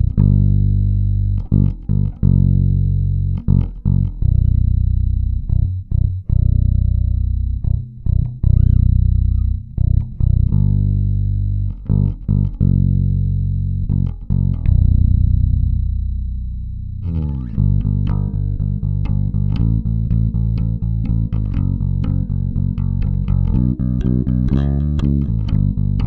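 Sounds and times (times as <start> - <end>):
electric bass plucked fingerstyle: 0.0 - 26.0.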